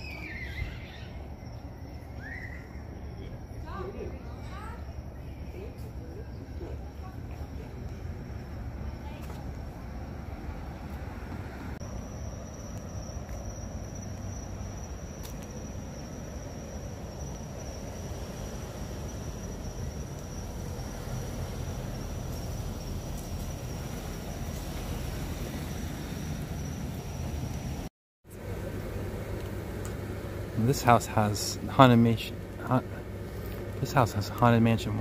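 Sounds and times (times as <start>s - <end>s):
high insect trill: 0.0s - 35.0s.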